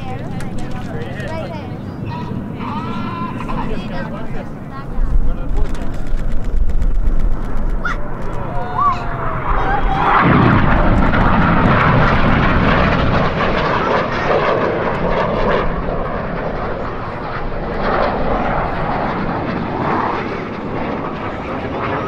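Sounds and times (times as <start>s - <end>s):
jet engines flying overhead: 0.0s - 22.0s.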